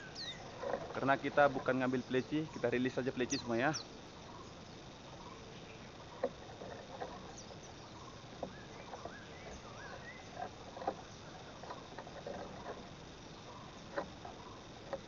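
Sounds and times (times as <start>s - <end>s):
insect hum: 0.0s - 15.0s.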